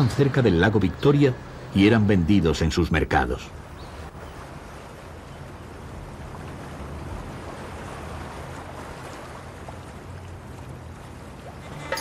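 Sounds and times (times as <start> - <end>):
water noise: 0.0 - 12.0.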